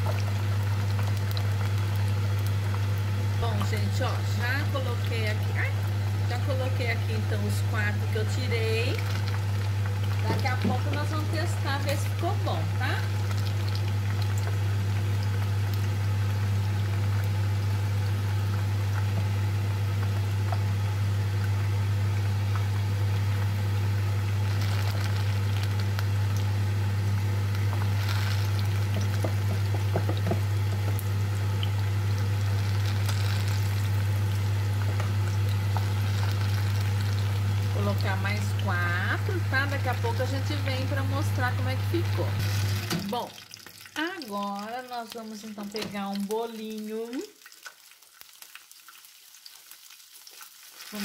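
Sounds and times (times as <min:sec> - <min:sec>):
steady low hum: 0:00.0 - 0:43.2
fritters sizzling in deep oil: 0:00.0 - 0:51.0.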